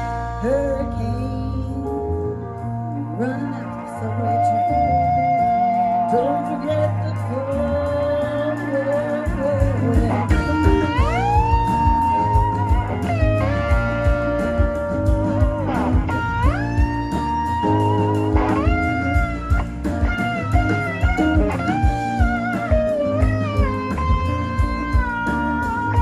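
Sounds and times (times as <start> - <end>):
bass and drum beat: 0.0 - 3.2, 4.2 - 26.0
electric guitar lead: 0.0 - 26.0.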